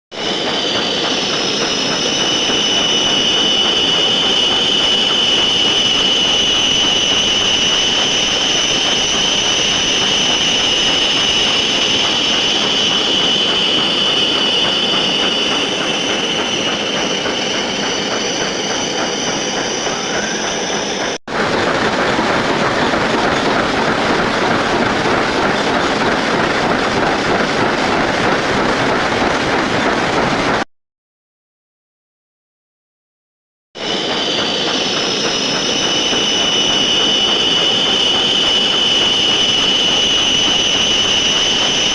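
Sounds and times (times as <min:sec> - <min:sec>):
metal lathe whining: 0:00.2 - 0:28.4, 0:33.8 - 0:41.9.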